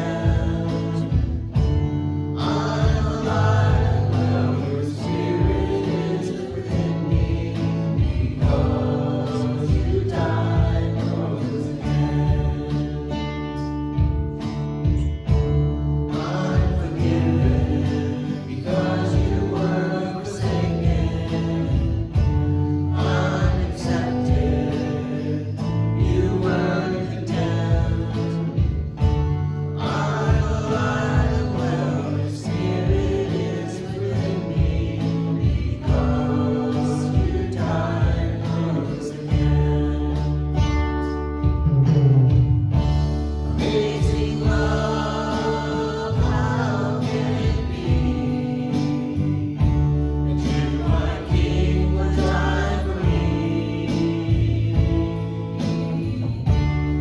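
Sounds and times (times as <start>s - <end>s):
congregation singing: 0.0s - 41.6s, 42.8s - 57.0s
worship band with guitar: 0.0s - 57.0s.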